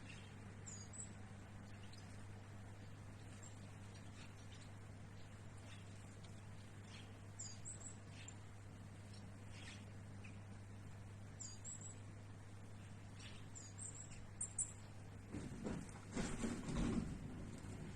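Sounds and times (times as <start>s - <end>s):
small birds chirping: 0.0s - 15.3s
steady low hum: 0.0s - 17.9s.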